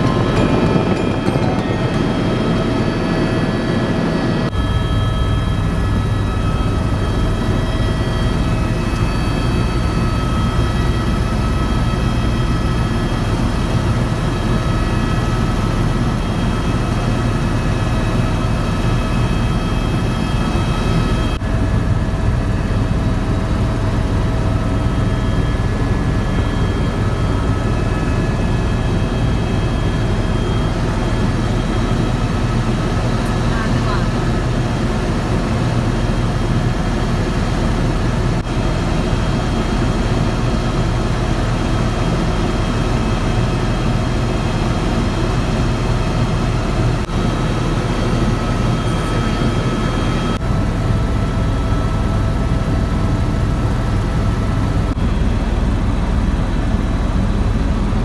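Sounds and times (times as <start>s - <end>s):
helicopter rotor thrum: 0.0s - 52.8s
turbine whine: 0.0s - 58.0s.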